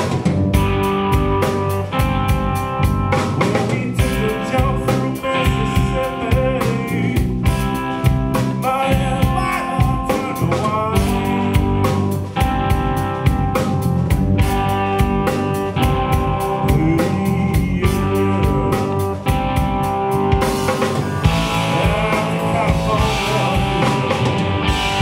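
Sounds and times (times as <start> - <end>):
bass guitar: 0.0 - 25.0
drum kit: 0.0 - 25.0
electric guitars: 0.0 - 25.0
guitar bending notes: 0.0 - 25.0.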